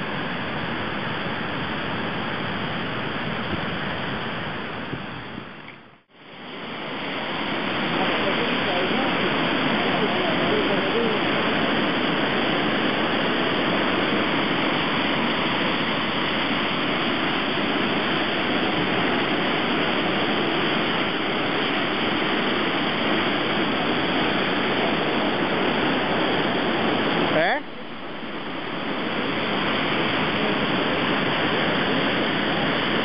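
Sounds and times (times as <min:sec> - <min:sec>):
turbulent water rushing: 0:00.0 - 0:33.0.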